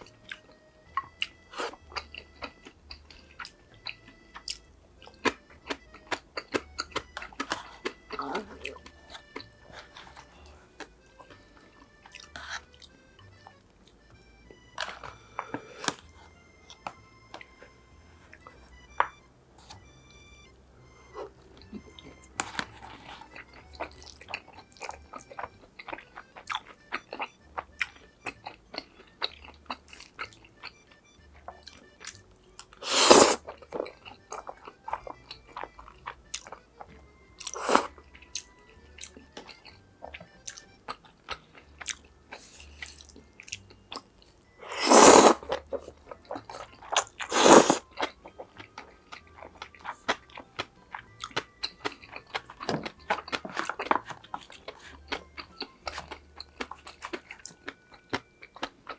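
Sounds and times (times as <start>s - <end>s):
crunchy bites: 0.0s - 17.7s, 21.0s - 58.9s
chewing with wet mouth clicks: 0.0s - 58.9s.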